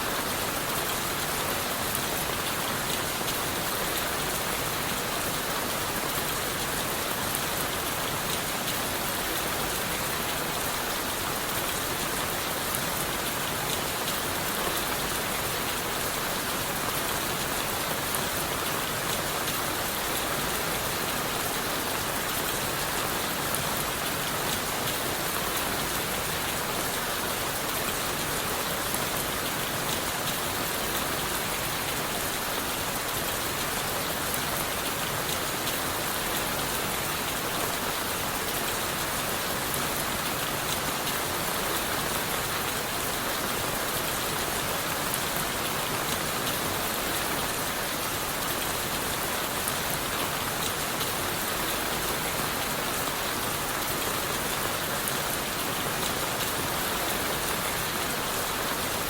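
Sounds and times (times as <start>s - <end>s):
steady rain on leaves: 0.0s - 59.0s.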